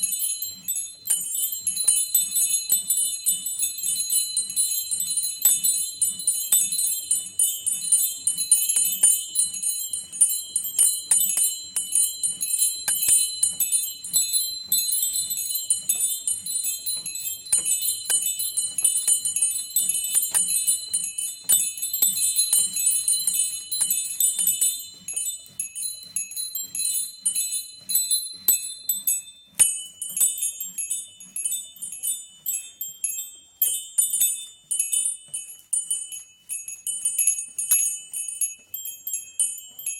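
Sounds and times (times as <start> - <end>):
small bells ringing rapidly: 0.0 - 39.9.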